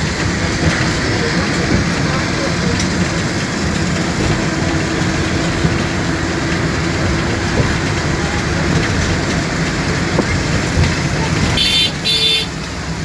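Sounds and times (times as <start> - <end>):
low engine hum: 0.0 - 13.0
road and wind noise: 0.0 - 13.0.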